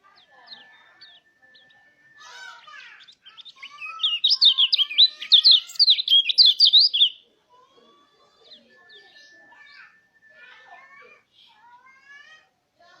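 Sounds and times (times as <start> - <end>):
bird singing high chirps: 0.0 - 11.8.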